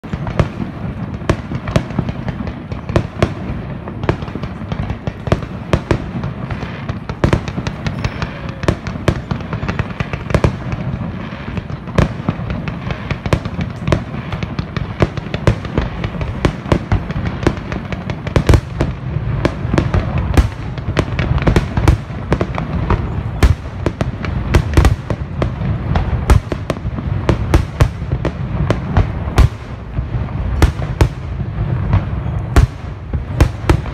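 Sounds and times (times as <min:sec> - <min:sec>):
fireworks bangs and cracks: 0:00.0 - 0:33.9.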